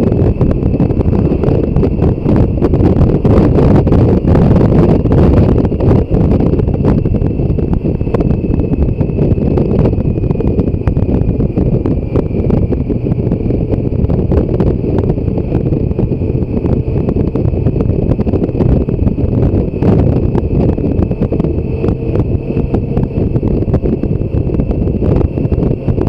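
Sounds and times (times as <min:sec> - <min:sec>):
motorcycle running: 0:00.0 - 0:26.0
wind buffeting microphone: 0:00.0 - 0:26.0.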